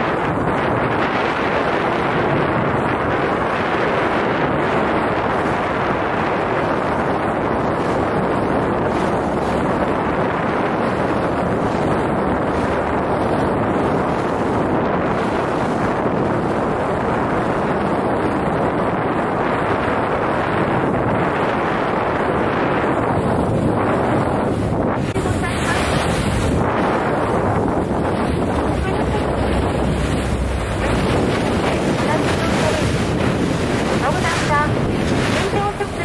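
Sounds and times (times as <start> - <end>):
boat running noise: 0.0 - 36.0
sea: 0.0 - 36.0
wind buffeting microphone: 0.0 - 36.0.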